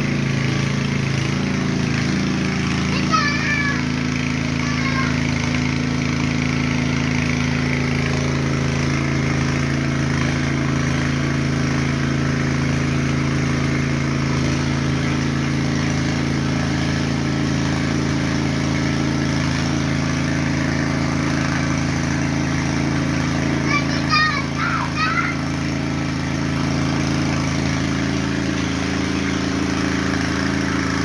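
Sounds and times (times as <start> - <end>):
small engine droning: 0.0 - 31.0.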